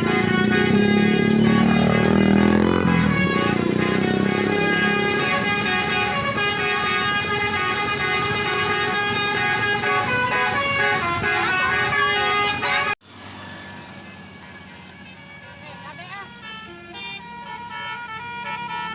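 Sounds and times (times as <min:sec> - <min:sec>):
bus horn playing a melody: 0:00.0 - 0:13.0, 0:13.7 - 0:18.9.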